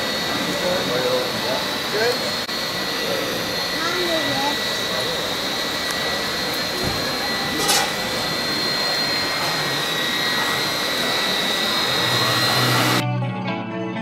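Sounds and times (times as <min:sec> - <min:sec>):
model truck motor whine: 0:00.0 - 0:13.0.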